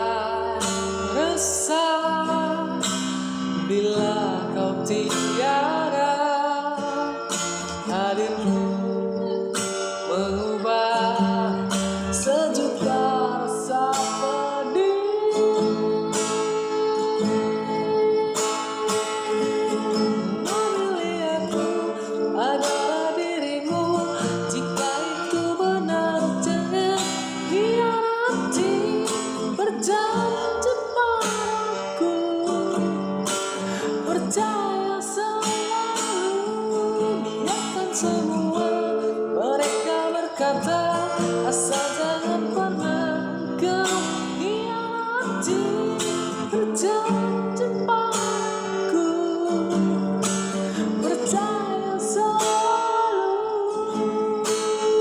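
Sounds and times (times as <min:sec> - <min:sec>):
acoustic guitar: 0:00.0 - 0:55.0
person singing: 0:00.0 - 0:55.0.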